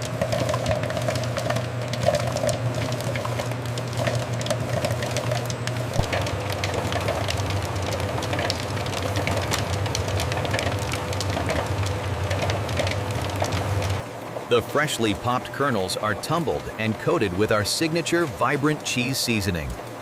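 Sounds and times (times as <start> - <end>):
machinery humming: 0.0 - 20.0
popcorn crackling and ticking: 0.0 - 20.0.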